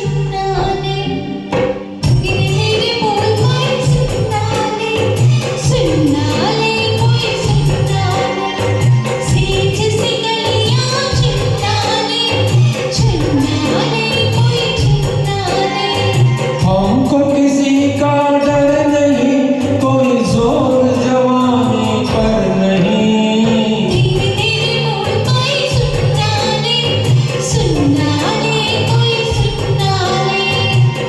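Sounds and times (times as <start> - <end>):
karaoke backing track: 0.0 - 31.0.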